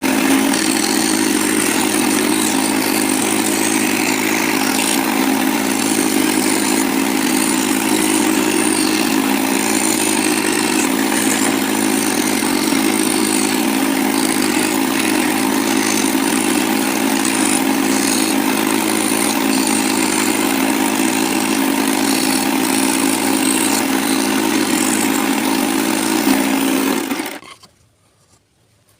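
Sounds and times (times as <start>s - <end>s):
electric jigsaw cutting wood: 0.0s - 27.6s.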